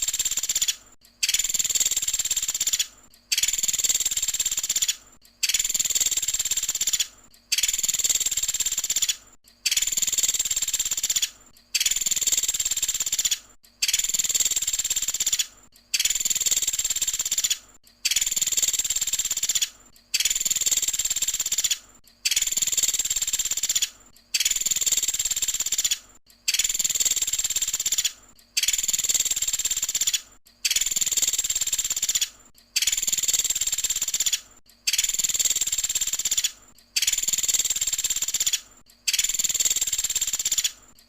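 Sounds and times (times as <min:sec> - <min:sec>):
woodpecker high-pitched trill: 0:00.0 - 0:40.8.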